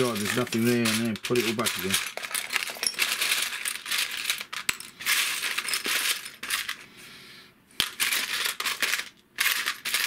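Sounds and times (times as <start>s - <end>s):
plastic parts rattling in tub: 0.0s - 6.8s, 7.8s - 10.0s.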